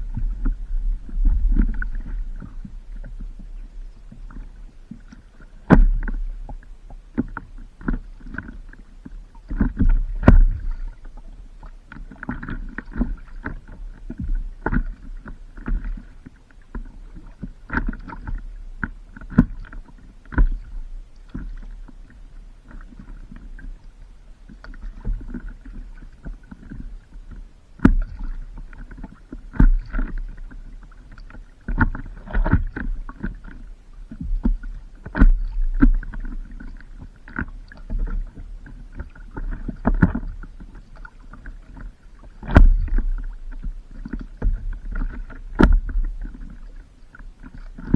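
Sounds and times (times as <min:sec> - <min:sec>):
water sloshing against paddleboard: 0:00.0 - 0:47.9.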